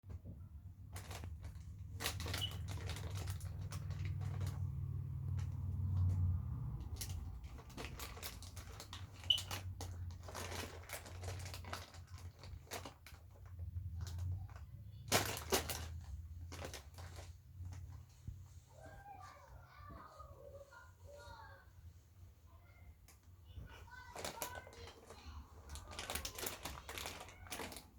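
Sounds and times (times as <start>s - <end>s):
handling clicks and rustling: 0.1s - 19.0s, 22.9s - 27.9s.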